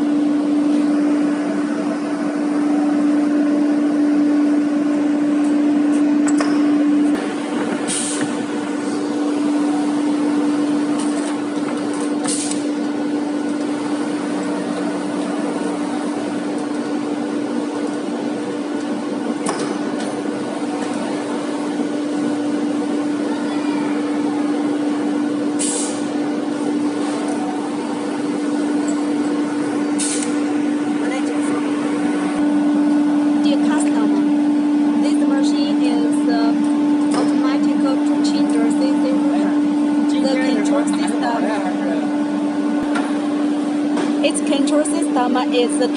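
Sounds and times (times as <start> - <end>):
cnc router humming: 0.0 - 45.9.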